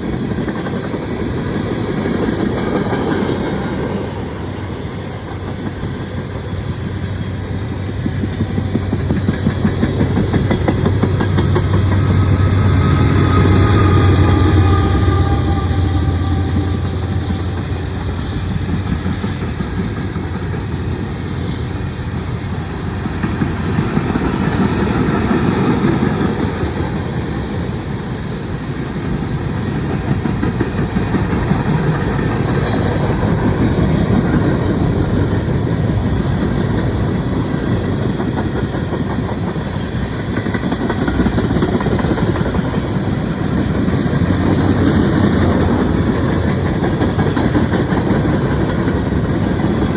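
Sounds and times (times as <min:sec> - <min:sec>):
freight train rumbling past: 0:00.0 - 0:49.9
steel wheels clattering on rails: 0:00.0 - 0:49.9.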